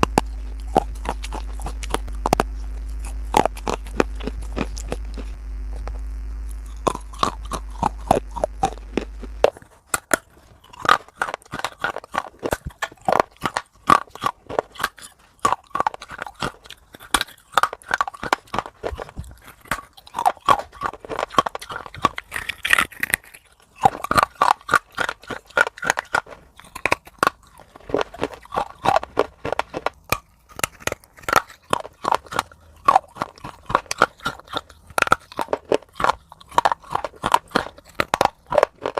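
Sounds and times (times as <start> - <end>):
crunchy food being chewed: 0.0 - 38.9
steady low hum: 0.0 - 38.9.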